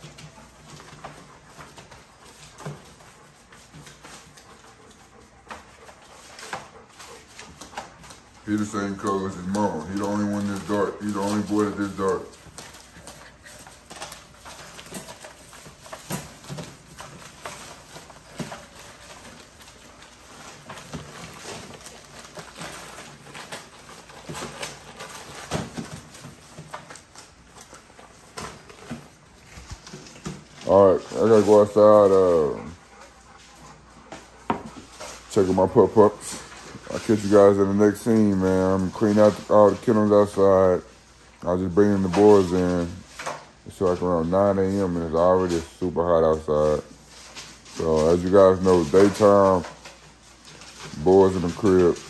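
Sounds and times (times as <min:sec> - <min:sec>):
paper rustling: 0:00.0 - 0:52.0
puppy paws tapping and scratching: 0:00.0 - 0:52.0.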